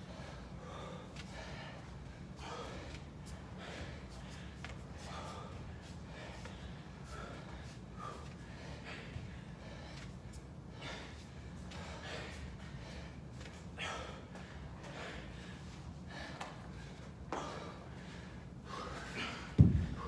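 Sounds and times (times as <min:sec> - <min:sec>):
low room hum: 0:00.0 - 0:20.0
men breathing hard: 0:00.0 - 0:20.0.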